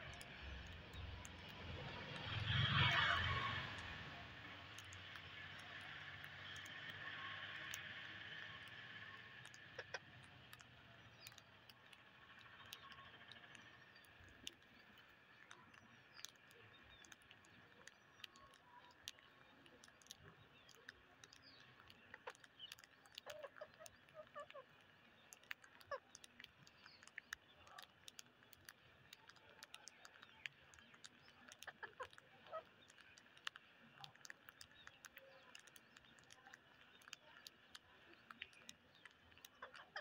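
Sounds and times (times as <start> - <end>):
beaks pecking on concrete: 0.0 - 40.0.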